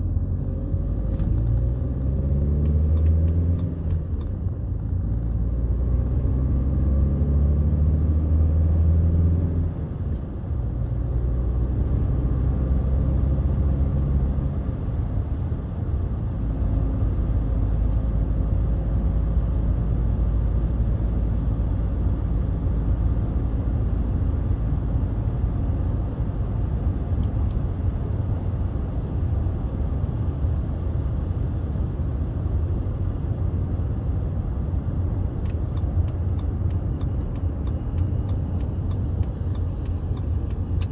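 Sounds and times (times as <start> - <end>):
road and tyre rumble: 0.0 - 40.9.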